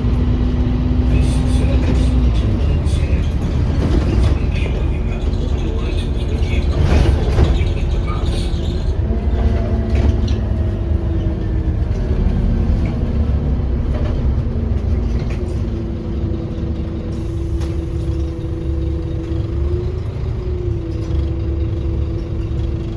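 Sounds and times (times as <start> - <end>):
bus diesel engine rumble: 0.0 - 22.9
drivetrain whine: 0.0 - 22.9.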